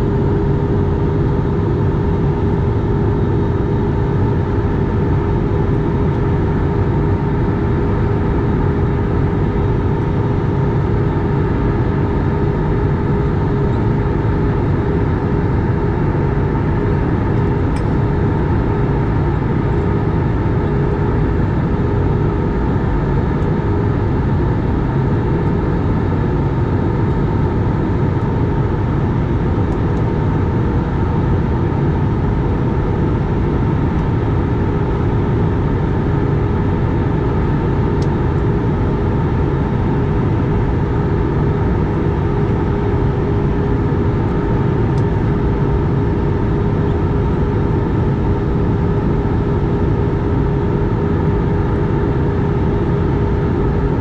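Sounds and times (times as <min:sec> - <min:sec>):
constant hum: 0:00.0 - 0:54.0
jet cabin engine and air noise: 0:00.0 - 0:54.0.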